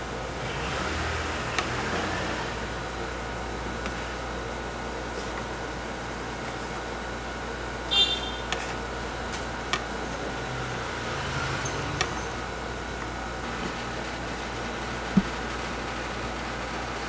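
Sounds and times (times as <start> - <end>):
room ventilation hum: 0.0 - 17.0.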